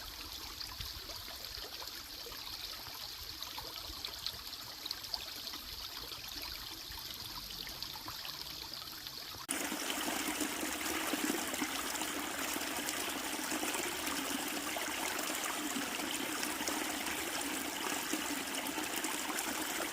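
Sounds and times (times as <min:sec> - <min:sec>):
stream running over rocks: 0:00.0 - 0:19.9.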